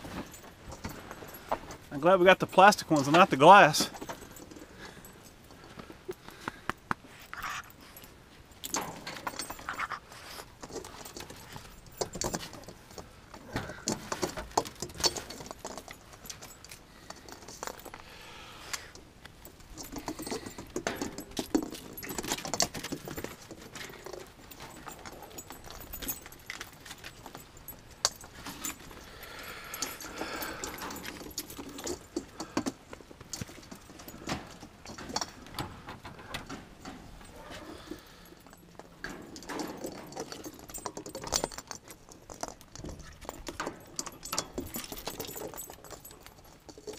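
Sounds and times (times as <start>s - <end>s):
collar tags jingling: 0.0s - 46.9s.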